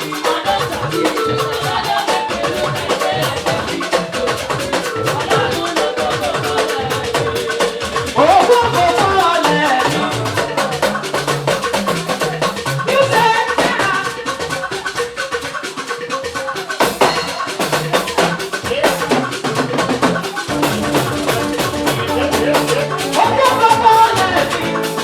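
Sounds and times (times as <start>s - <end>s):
drum kit and percussion beat: 0.0s - 25.0s
live praise band music: 0.0s - 25.0s.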